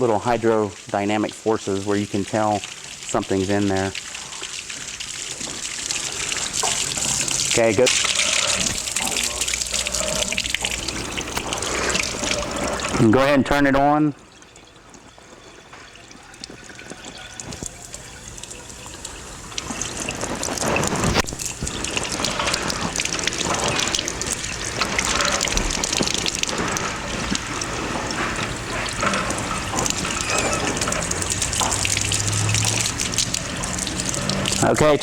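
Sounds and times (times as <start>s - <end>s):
water rushing through drain pipe: 0.0s - 35.0s.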